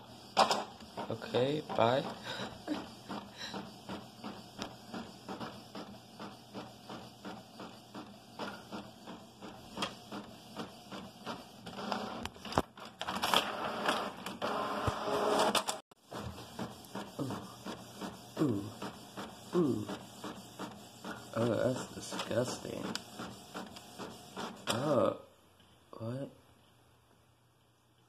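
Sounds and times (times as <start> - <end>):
printer whirring: 0.0 - 24.8
inkjet printer printing: 0.0 - 25.0.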